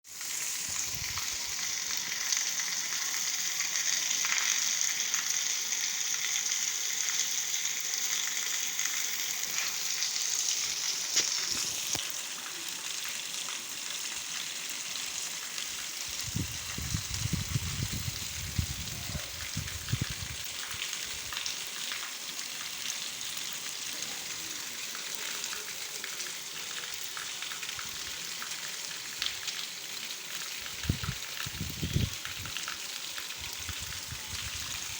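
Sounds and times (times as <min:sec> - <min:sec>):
steady rain falling: 0:00.1 - 0:16.5, 0:17.1 - 0:34.9.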